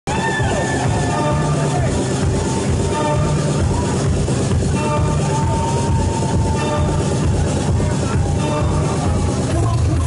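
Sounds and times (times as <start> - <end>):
loud techno music: 0.1 - 10.0.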